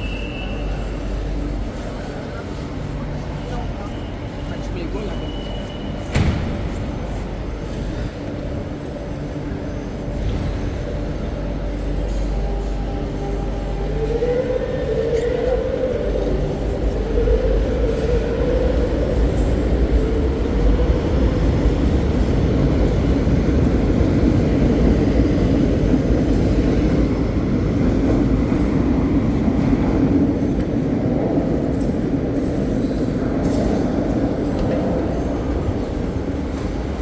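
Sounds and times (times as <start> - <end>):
train wheels and motors rumbling: 0.0 - 37.0.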